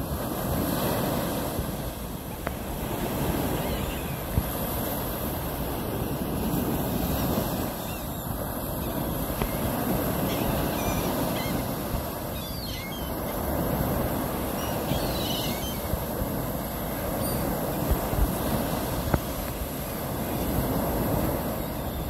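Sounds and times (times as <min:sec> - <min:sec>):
waves washing up a beach: 0:00.0 - 0:22.0
wind on microphone: 0:00.0 - 0:22.0.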